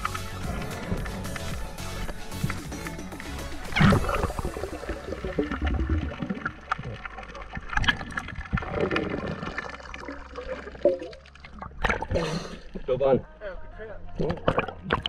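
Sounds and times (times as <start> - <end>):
underwater bubbling and gurgling: 0.0 - 12.9, 14.2 - 15.0.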